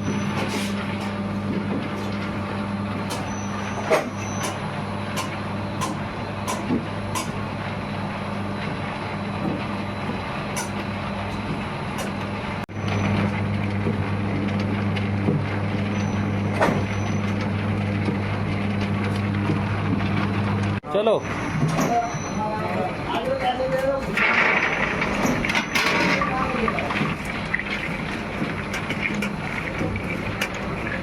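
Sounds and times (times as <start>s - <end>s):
factory machinery humming: 0.0s - 31.0s.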